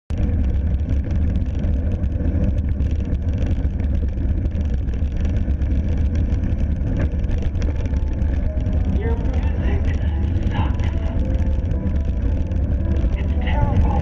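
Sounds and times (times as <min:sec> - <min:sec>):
bike rattling and clicking: 0:00.1 - 0:14.0
wind buffeting microphone: 0:00.1 - 0:14.0.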